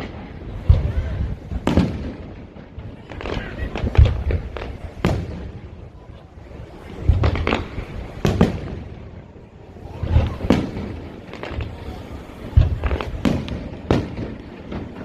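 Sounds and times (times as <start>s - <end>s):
fireworks booming with crackle: 0.0s - 15.0s.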